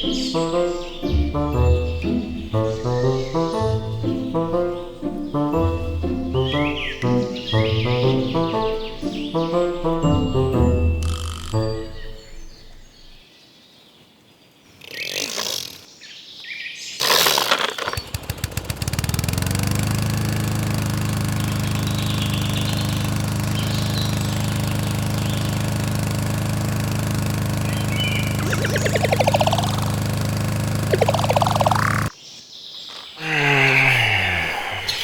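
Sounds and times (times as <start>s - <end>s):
lawn mower engine starting: 0.0s - 13.2s, 17.0s - 32.1s.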